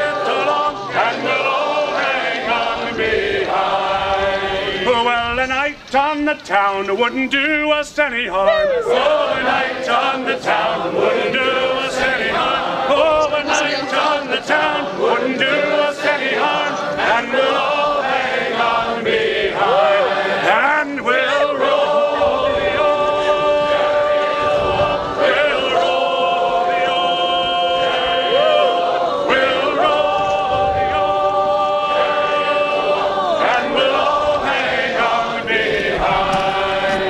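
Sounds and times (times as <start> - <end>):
choir singing held chords: 0.0 - 5.4, 8.4 - 37.0.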